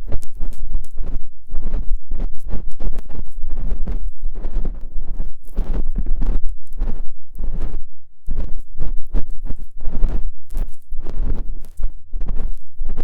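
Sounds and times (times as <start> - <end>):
tool scraping a microphone: 0.0 - 13.0.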